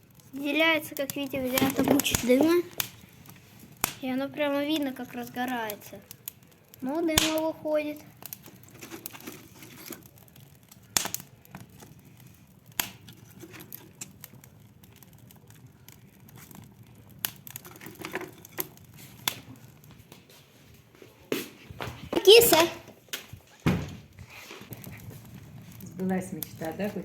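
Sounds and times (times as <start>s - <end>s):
fire crackling and popping: 0.0s - 27.0s.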